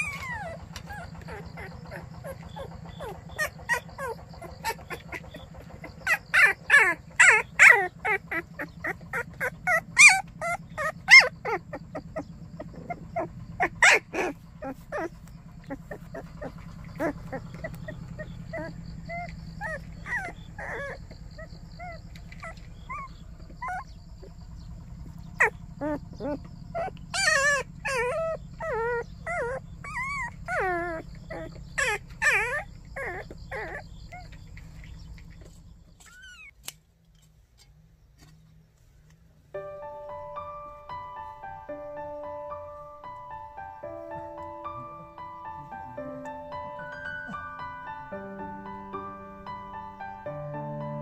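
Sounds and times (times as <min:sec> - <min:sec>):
puppies yelping and whining: 0:00.0 - 0:36.6, 0:42.2 - 0:48.9.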